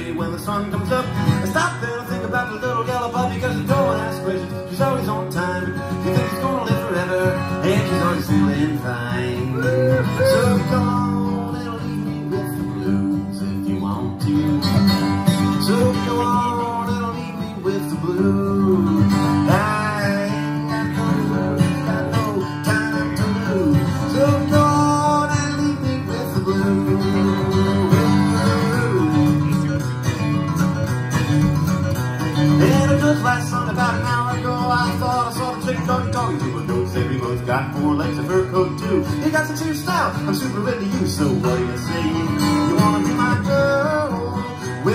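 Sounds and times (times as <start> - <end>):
acoustic guitar playing: 0.0 - 44.9.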